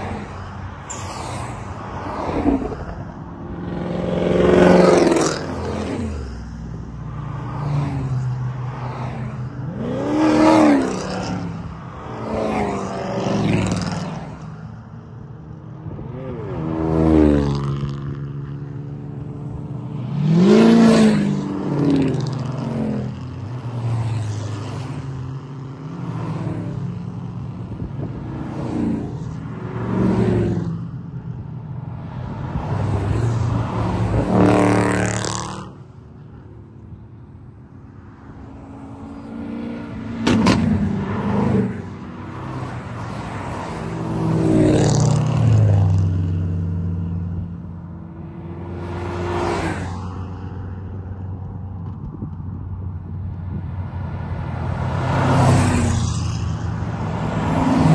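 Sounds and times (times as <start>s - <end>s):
cars driving past: 0.0s - 57.9s.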